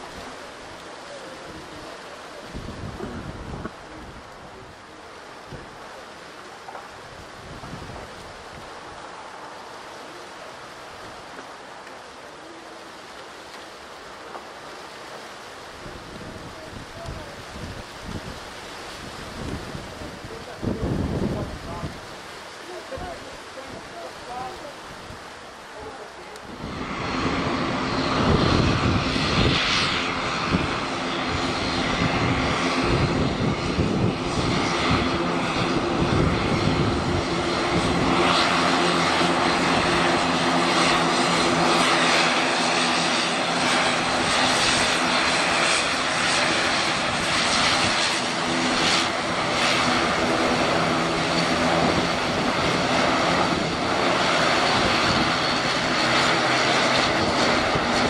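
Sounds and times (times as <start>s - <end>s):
aircraft engines at takeoff: 0.0s - 58.0s.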